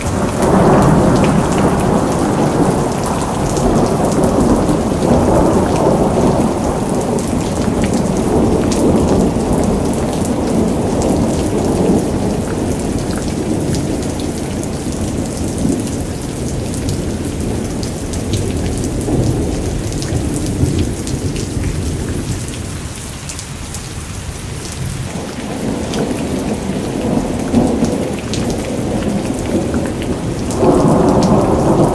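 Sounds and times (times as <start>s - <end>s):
rolling thunder: 0.0s - 22.8s, 24.4s - 31.9s
rain falling: 0.0s - 31.9s.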